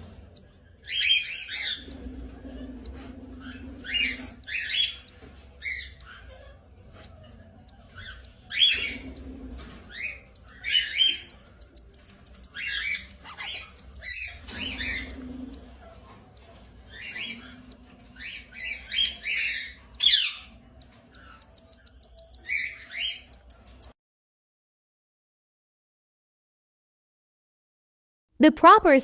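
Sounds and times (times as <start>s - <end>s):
lovebirds chirping and squawking: 0.0s - 24.0s.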